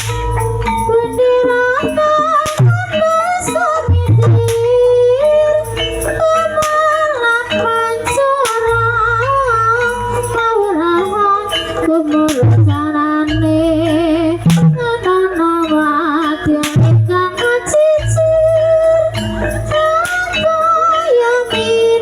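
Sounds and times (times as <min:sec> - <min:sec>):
sharp percussive strokes: 0:00.0 - 0:15.5, 0:16.4 - 0:18.3, 0:18.9 - 0:21.0
gamelan music: 0:00.0 - 0:22.0
woman singing: 0:00.8 - 0:22.0.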